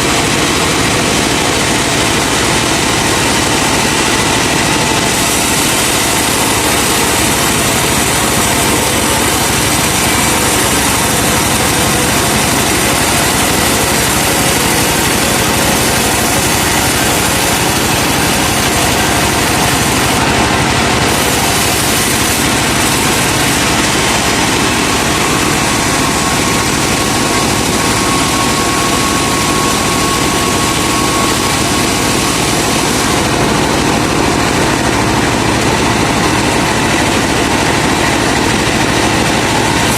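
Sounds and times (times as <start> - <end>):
truck engine running loudly: 0.0 - 39.9.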